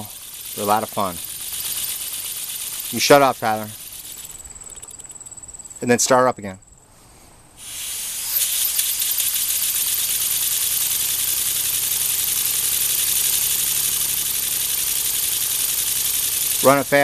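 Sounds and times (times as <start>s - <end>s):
model steam engine running: 0.0s - 5.1s, 8.2s - 17.0s.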